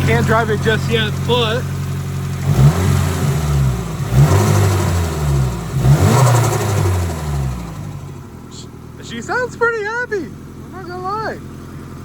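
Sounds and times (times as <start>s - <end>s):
car engine revving from idle: 0.0s - 12.0s.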